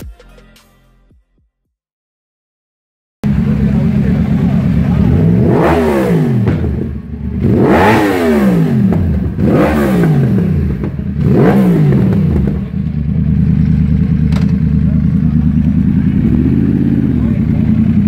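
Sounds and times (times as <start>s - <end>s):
motorcycle engine revving and idling: 3.2s - 18.0s.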